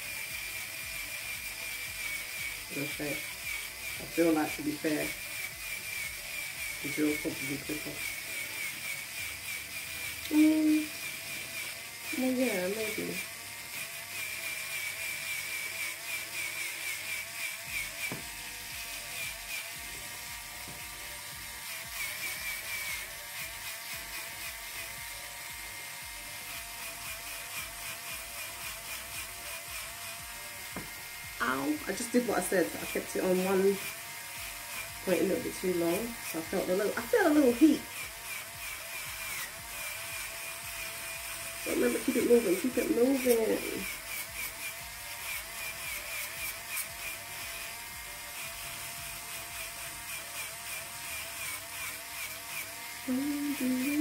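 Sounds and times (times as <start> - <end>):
electric nail drill whining: 0.0 - 54.0.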